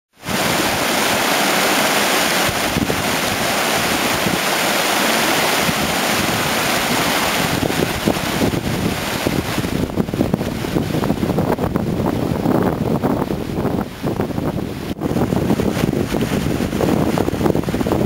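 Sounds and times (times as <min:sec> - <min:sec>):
stream rushing over rocks: 0:00.2 - 0:18.0
wind rumble on microphone: 0:00.2 - 0:18.0.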